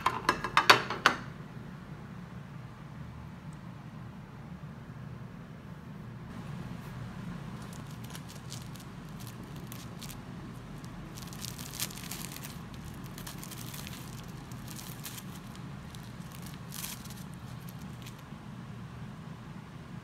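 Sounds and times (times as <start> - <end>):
steady low hum: 1.2 - 20.0.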